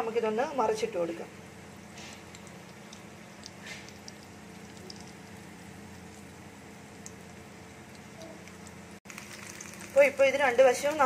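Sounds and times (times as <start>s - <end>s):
steady low hum: 0.0s - 11.0s
oil popping: 1.8s - 11.0s
hot oil sizzling in a pan: 2.0s - 11.0s.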